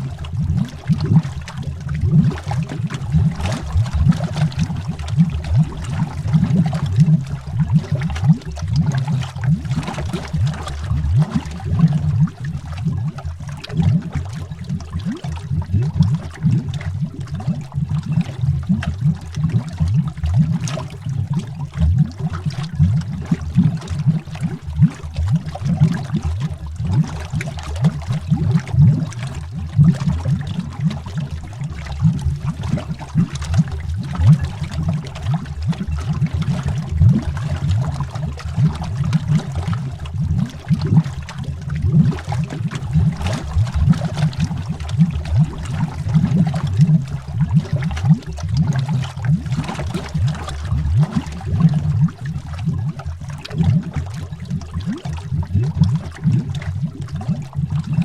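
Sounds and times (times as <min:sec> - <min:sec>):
underwater bubbling and gurgling: 0:00.0 - 0:58.0.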